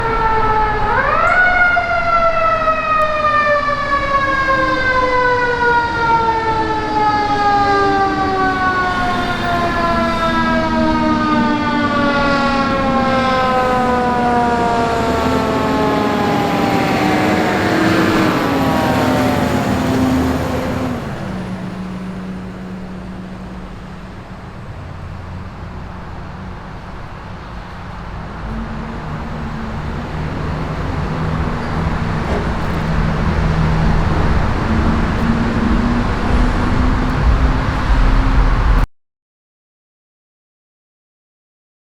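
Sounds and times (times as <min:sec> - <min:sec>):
fire truck siren: 0:00.0 - 0:38.9
truck engine running: 0:00.0 - 0:38.9.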